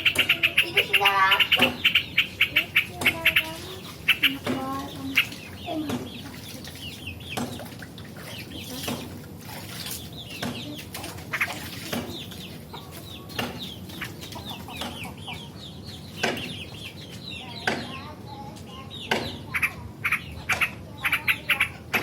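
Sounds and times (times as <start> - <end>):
bird chattering: 0.0 - 7.4, 10.0 - 22.0.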